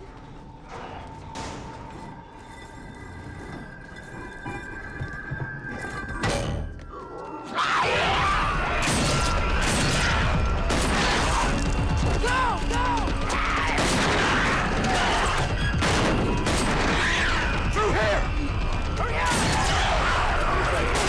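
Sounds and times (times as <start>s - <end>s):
loud film score music: 0.0s - 21.0s.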